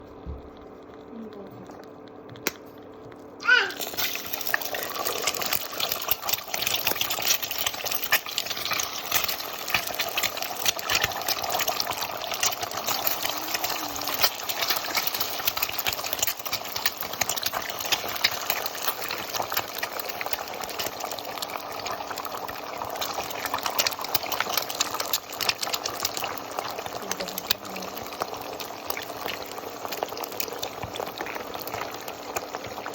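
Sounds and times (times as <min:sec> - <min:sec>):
eggs sizzling in hot oil: 0:03.3 - 0:32.9
oil crackling and spitting: 0:03.4 - 0:32.9.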